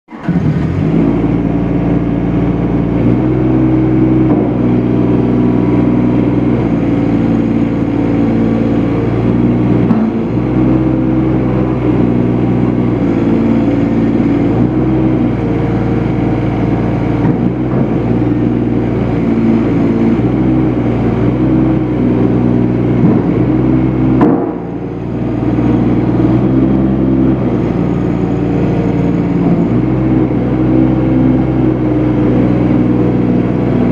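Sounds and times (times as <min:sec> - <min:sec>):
mini track loader engine running: 0:00.1 - 0:33.9.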